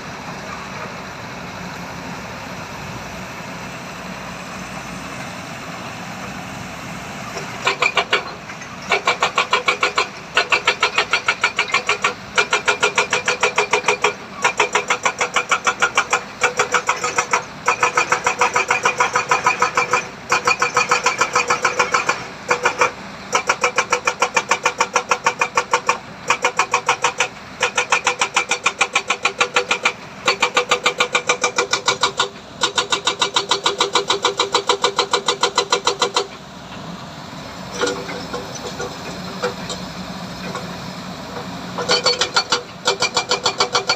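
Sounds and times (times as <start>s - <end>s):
machinery rhythmic clatter: 7.3s - 36.4s, 37.7s - 43.9s.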